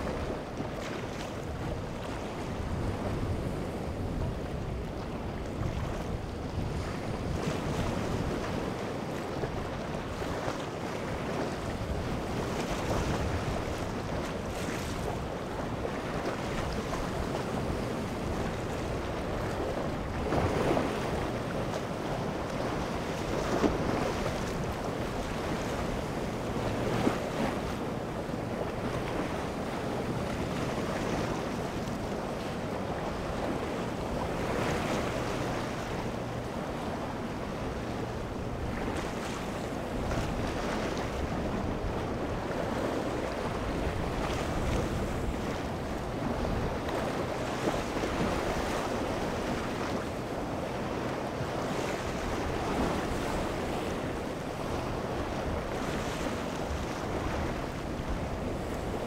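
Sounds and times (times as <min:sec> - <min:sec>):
sea waves breaking on rocks: 0:00.0 - 0:59.0
wind buffeting microphone: 0:00.0 - 0:59.0.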